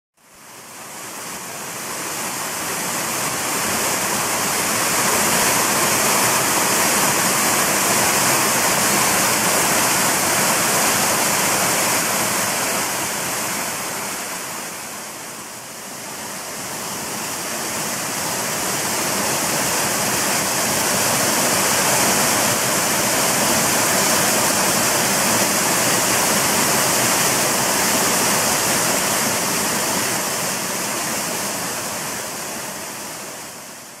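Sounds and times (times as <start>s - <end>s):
waterfall splashing over rock: 0.4s - 34.0s.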